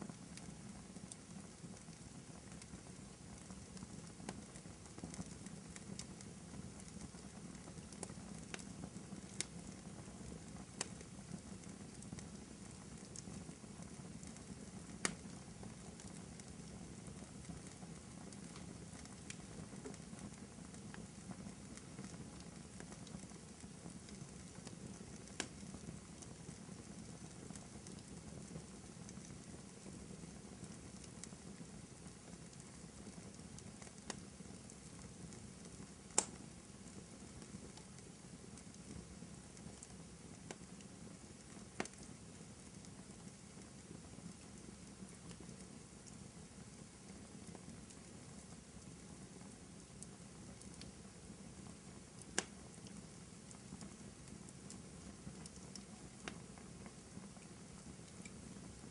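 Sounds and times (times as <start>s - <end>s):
fire popping: 0.0s - 58.9s
rumble of burning logs: 0.0s - 58.9s.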